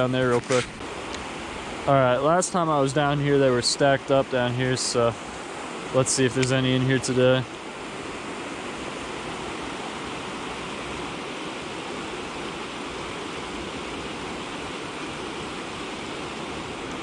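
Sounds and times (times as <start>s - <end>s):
water rushing over spillway: 0.0s - 17.0s.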